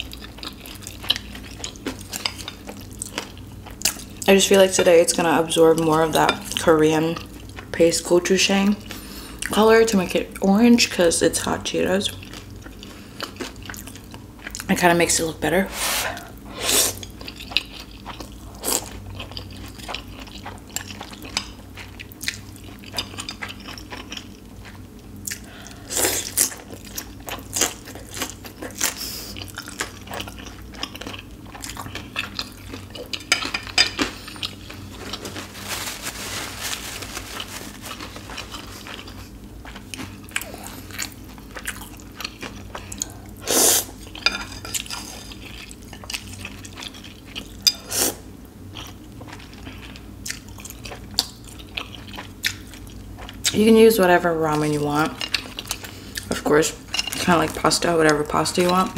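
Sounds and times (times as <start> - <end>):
chewing and crunching: 0.0 - 4.4, 11.9 - 14.8, 16.9 - 47.9, 48.7 - 58.9.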